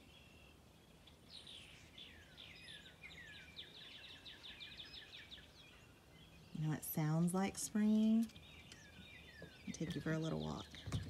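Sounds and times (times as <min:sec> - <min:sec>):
songbirds chirping faintly: 0:00.0 - 0:11.0.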